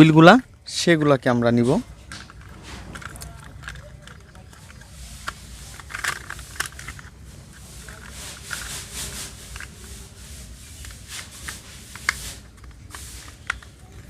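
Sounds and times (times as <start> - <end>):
plastic toy parts rubbing and clicking: 0.2 - 14.0.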